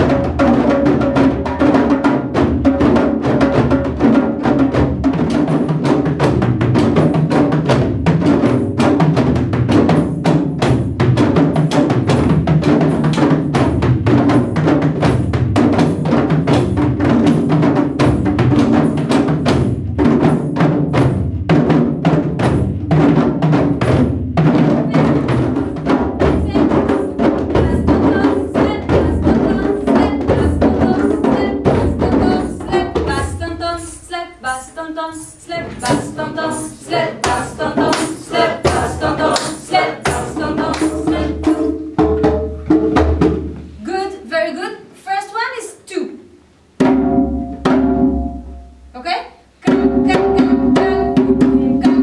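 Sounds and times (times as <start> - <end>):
group of hand drums and bass drums: 0.0 - 44.2, 46.6 - 52.0.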